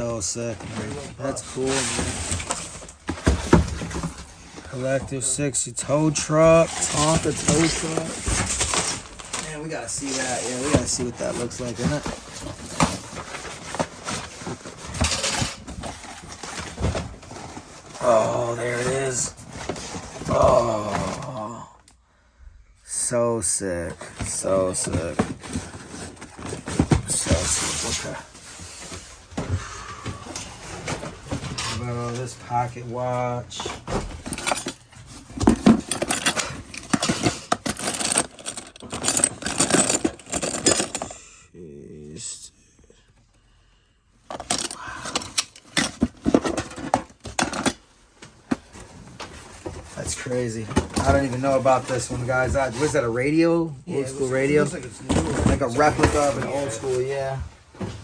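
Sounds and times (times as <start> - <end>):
rustling and scraping: 0.0 - 21.5, 22.9 - 41.2, 44.3 - 58.0
knocks and clatters of items: 0.0 - 21.6, 23.5 - 41.2, 44.3 - 53.3, 54.2 - 58.0.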